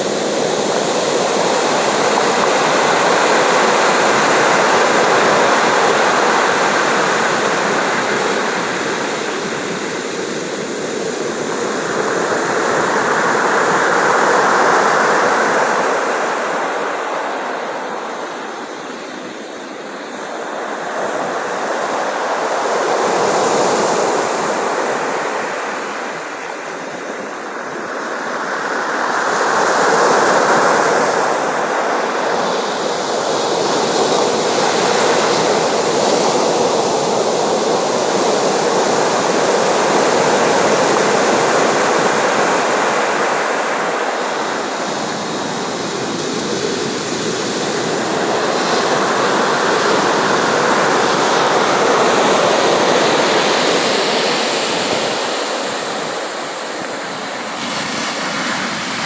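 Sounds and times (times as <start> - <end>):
waves rushing: 0.0 - 59.0.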